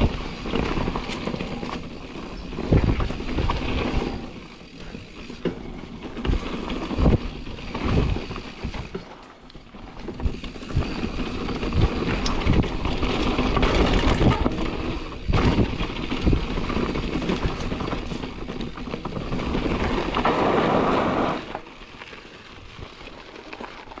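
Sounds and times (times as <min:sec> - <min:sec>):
bike knocking and rattling: 0:00.0 - 0:24.0
tyres rushing on dirt trail: 0:00.0 - 0:24.0.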